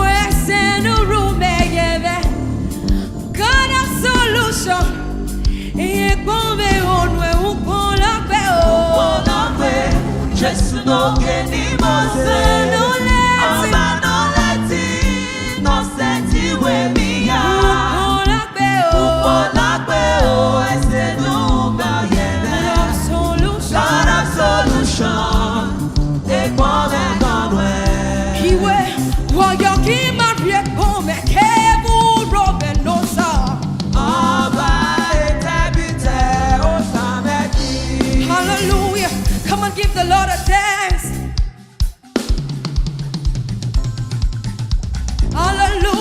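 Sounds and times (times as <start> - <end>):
band with repeating bass line: 0.0 - 46.0
voices singing gospel music: 0.0 - 46.0.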